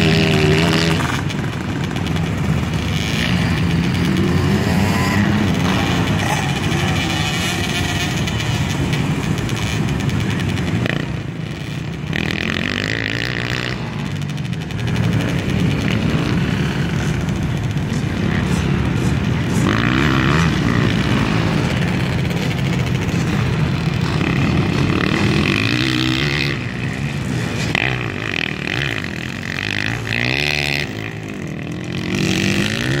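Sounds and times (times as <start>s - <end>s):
dirt bike engines revving: 0.0s - 33.0s.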